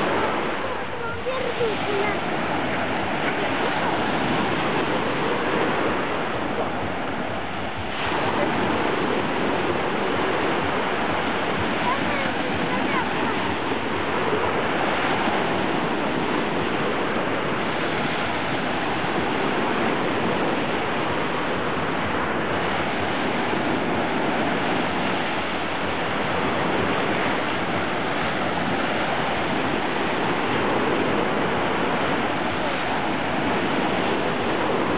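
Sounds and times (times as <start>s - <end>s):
small waves on sandy beach: 0.0s - 34.9s.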